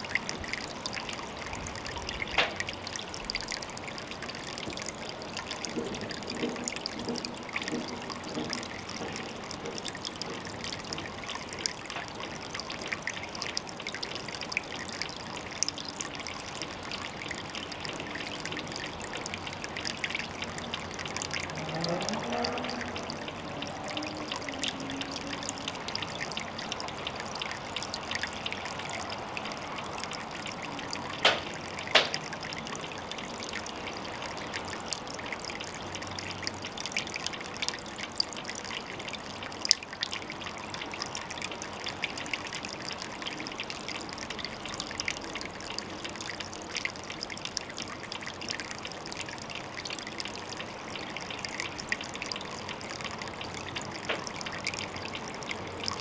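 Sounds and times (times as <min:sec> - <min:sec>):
water drips and splashes: 0:00.0 - 0:56.0
water trickling: 0:00.0 - 0:56.0.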